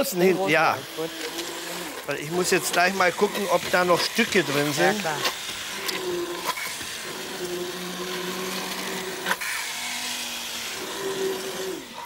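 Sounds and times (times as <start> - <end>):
immersion blender humming: 0.0 - 12.0.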